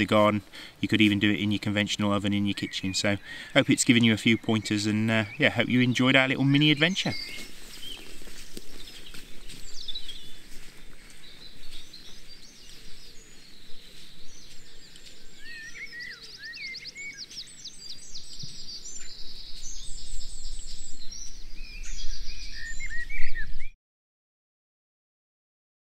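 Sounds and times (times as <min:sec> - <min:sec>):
songbirds singing and calling: 0:00.0 - 0:23.8.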